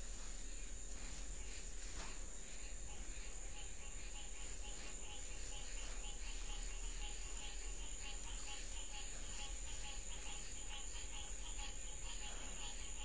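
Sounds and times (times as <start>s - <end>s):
crickets chirping: 0.0s - 13.0s
high-pitched insect whine: 0.0s - 13.0s.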